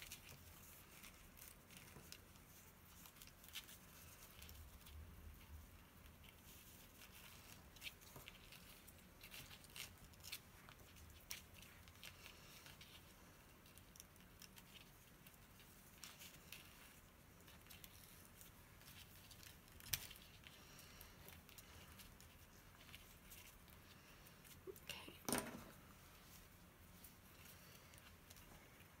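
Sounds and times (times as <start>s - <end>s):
ribbon and paper rustling: 0.0s - 29.0s.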